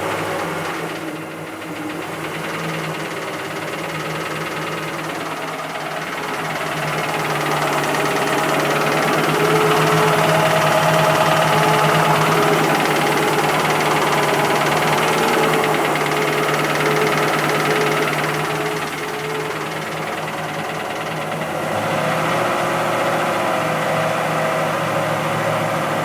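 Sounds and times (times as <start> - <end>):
fast even engine knock: 0.0 - 23.5
engine running: 0.0 - 26.0.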